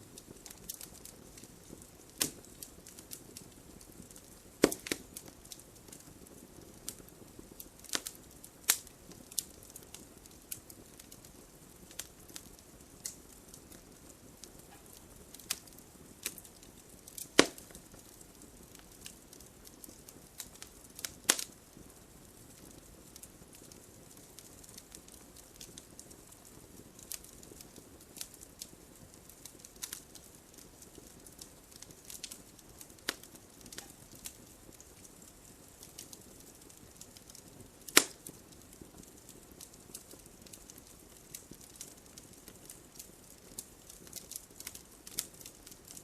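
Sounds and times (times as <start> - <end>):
soft low hiss: 0.0 - 46.0
wood fire crackling: 0.0 - 46.0.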